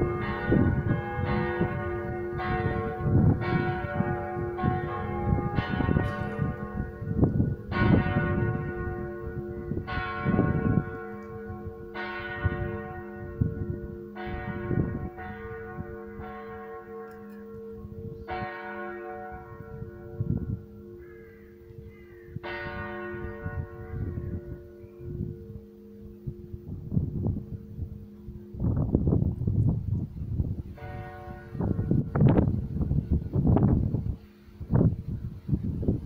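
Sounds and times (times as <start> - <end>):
church bells ringing: 0.0 - 29.4, 30.6 - 33.5.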